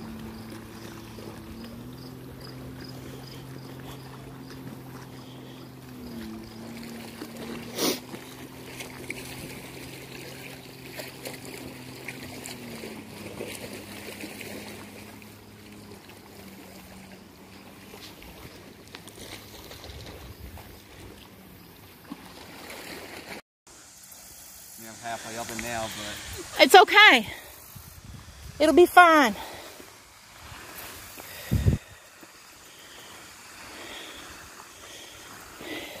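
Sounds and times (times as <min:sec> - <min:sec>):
motorboat engine droning: 0:00.0 - 0:36.0.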